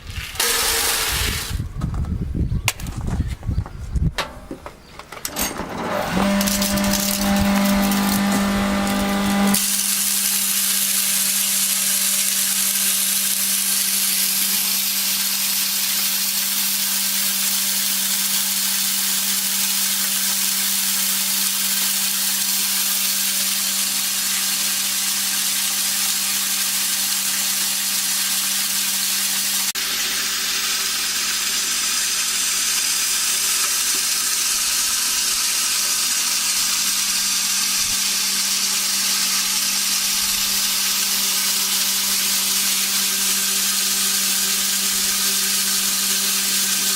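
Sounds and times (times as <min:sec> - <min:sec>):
grain milling rushing noise: 0:00.0 - 0:01.6, 0:05.7 - 0:46.9
motor humming: 0:00.0 - 0:02.6, 0:05.7 - 0:46.9.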